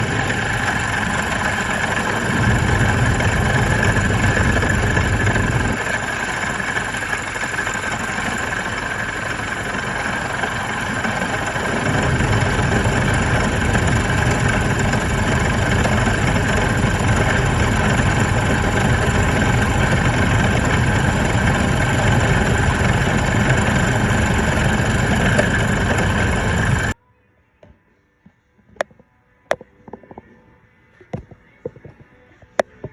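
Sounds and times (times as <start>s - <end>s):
car engine running: 0.0s - 27.0s
high-pitched pulley whine: 0.0s - 27.0s.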